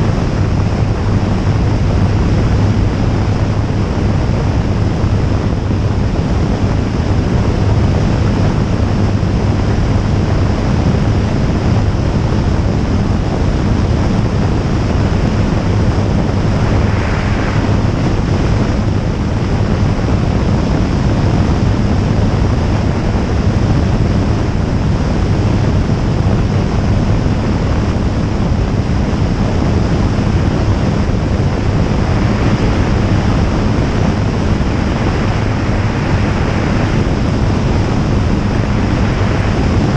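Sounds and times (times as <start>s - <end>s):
light aircraft engine drone: 0.0s - 39.9s
wind noise on microphone: 0.0s - 39.9s.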